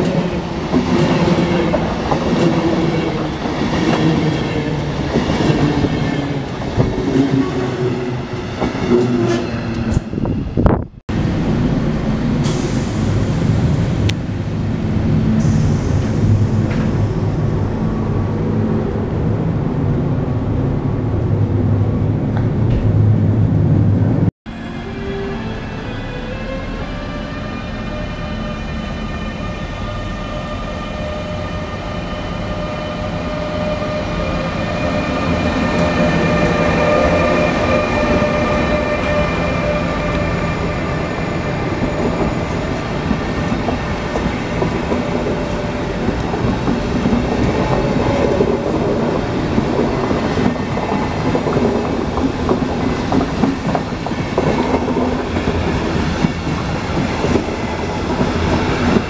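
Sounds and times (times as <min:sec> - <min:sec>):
electric locomotive whine: 0:00.0 - 0:59.0
train coaches rumbling: 0:00.0 - 0:59.0.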